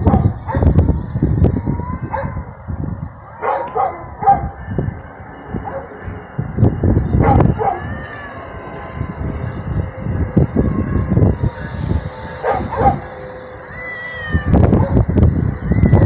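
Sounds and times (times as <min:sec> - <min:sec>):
cats yowling: 0:00.0 - 0:04.8, 0:05.6 - 0:16.0
wind buffeting microphone: 0:00.0 - 0:16.0.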